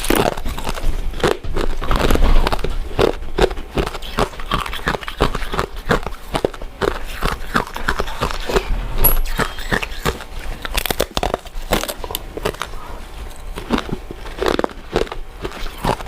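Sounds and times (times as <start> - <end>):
chewing sticky rice cakes: 0.0 - 16.0.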